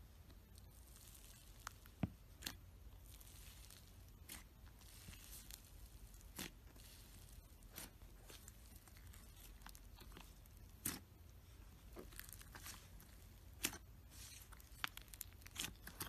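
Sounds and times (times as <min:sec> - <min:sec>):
squishy clay in slime: 0:00.0 - 0:16.0.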